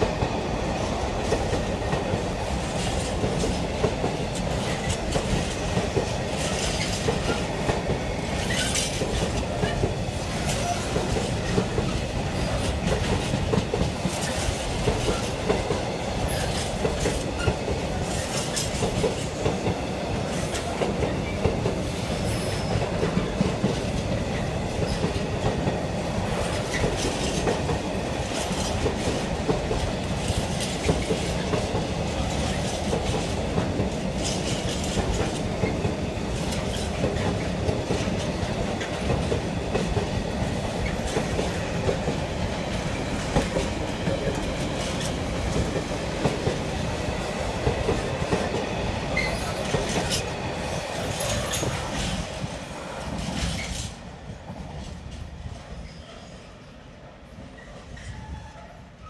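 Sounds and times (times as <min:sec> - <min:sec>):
freight train rumbling past: 0:00.0 - 0:59.0
wheels clicking over rail joints: 0:00.9 - 0:52.4.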